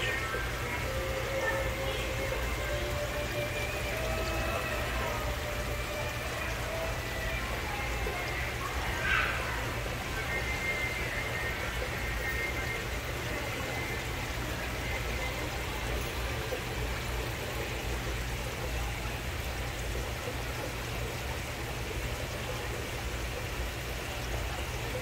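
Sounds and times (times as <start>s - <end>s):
aquarium pumps humming: 0.0s - 25.0s
running water trickle: 0.0s - 25.0s.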